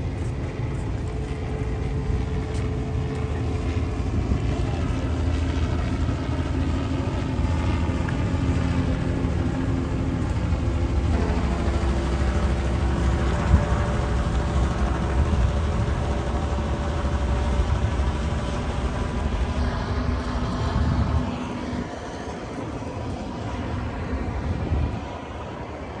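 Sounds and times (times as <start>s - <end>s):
helicopter flying overhead: 0.0s - 26.0s.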